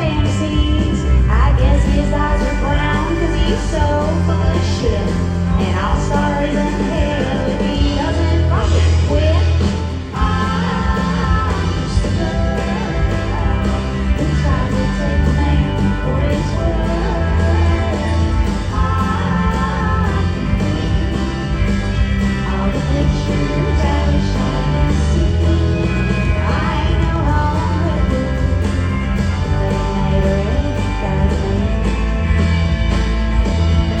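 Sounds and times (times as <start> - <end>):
lead singer's vocal: 0.0 - 32.0
country-rock band playing: 0.0 - 34.0.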